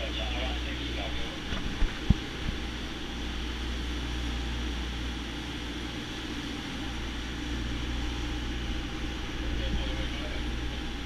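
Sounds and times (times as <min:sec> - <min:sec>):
boat engines running: 0:00.0 - 0:11.0
wake rushing: 0:00.0 - 0:11.0.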